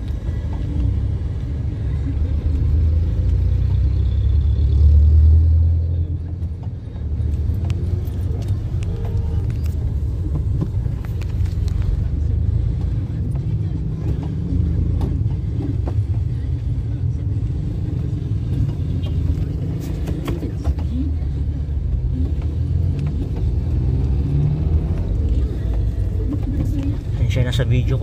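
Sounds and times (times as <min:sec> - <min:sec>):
car engine rumble: 0:00.0 - 0:28.0
road noise: 0:00.0 - 0:28.0.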